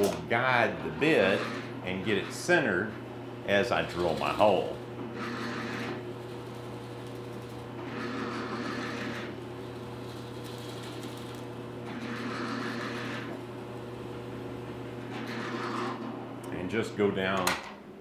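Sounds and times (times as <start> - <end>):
drill press motor hum: 0.0 - 16.6.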